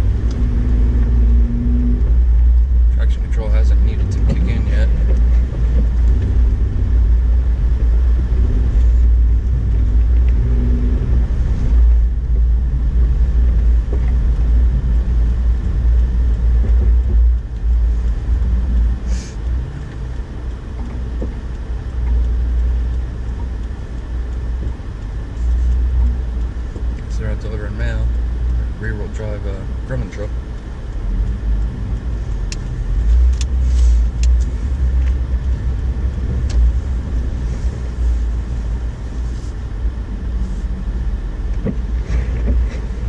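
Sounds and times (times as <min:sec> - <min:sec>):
engine and tyres rumbling on snow: 0:00.0 - 0:43.0.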